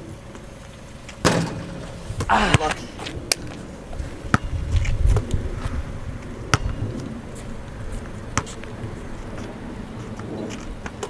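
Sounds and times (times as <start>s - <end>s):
basketball bouncing on asphalt: 0.3s - 11.0s
wind rumble on microphone: 1.6s - 11.0s.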